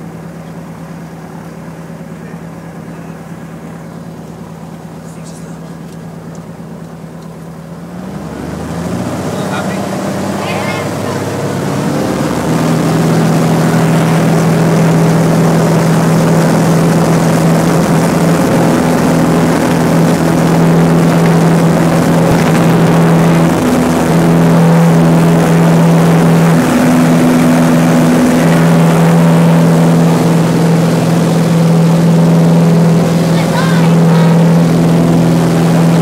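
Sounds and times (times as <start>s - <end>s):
propeller plane engine drone: 0.0s - 36.0s.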